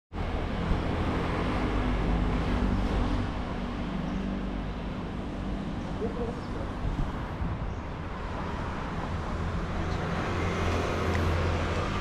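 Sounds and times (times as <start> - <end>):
street traffic rumble: 0.1 - 12.0
vehicle engine hum: 0.1 - 12.0.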